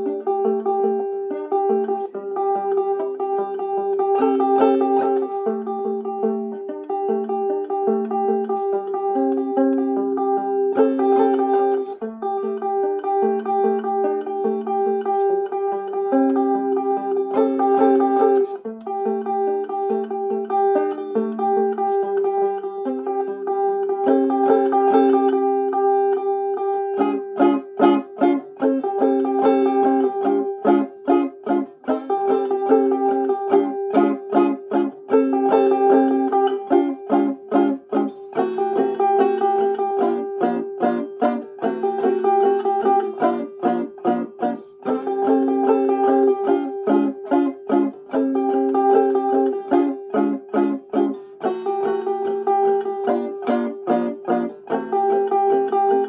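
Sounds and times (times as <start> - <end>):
banjo playing a hoedown tune: 0.0 - 56.0.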